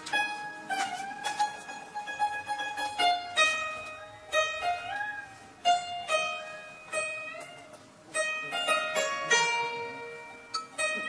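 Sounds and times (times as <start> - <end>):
plucked zither melody: 0.0 - 11.0.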